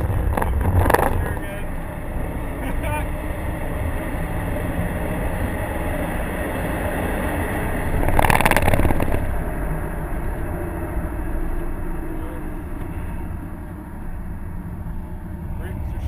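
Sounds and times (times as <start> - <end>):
car engine running: 0.0 - 16.0
road and tyre noise: 0.0 - 16.0.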